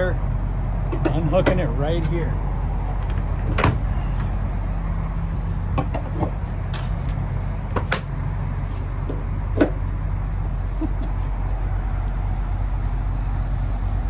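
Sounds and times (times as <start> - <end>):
truck diesel engine idling: 0.0 - 14.0.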